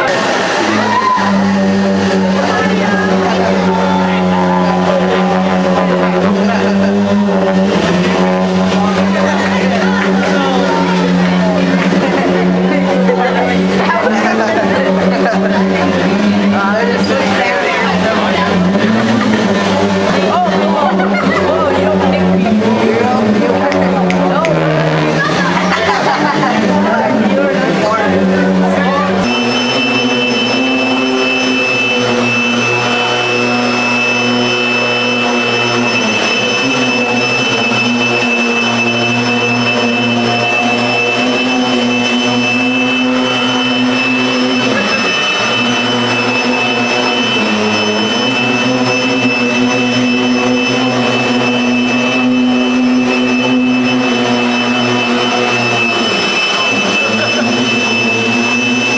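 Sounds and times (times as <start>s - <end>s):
leaf blower whining: 0.0s - 58.9s.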